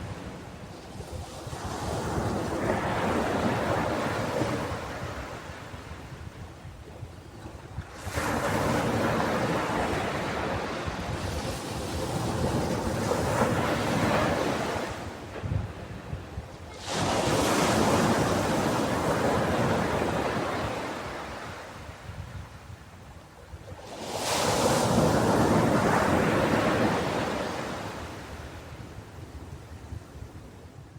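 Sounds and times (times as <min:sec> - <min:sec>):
ocean waves breaking on beach: 0:00.0 - 0:06.6, 0:07.4 - 0:23.1, 0:23.7 - 0:30.2.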